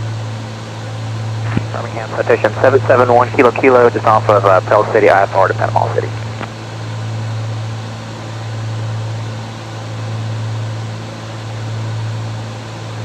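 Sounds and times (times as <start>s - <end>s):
twin propeller engines droning: 0.0s - 13.0s.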